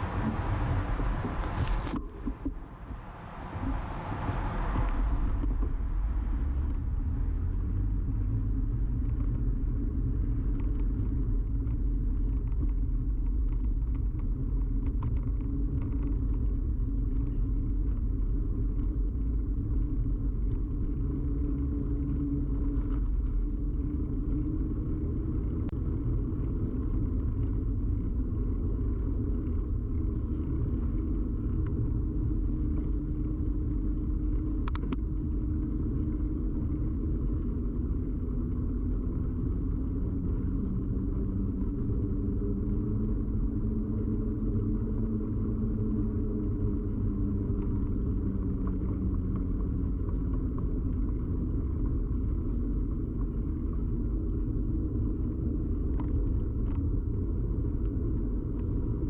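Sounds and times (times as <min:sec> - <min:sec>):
bicycle tyres rolling: 0:00.0 - 0:59.0
faint ticks: 0:10.1 - 0:59.0.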